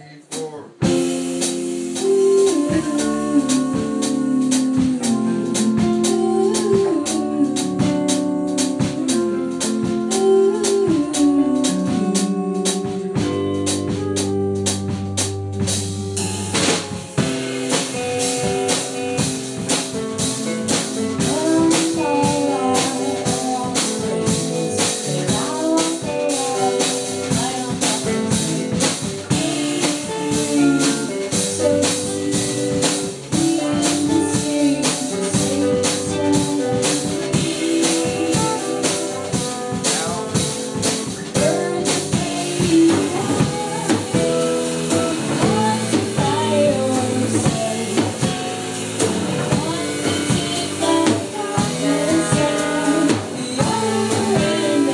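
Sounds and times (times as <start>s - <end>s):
drum kit beat: 0.0s - 54.9s
guitar: 0.0s - 54.9s.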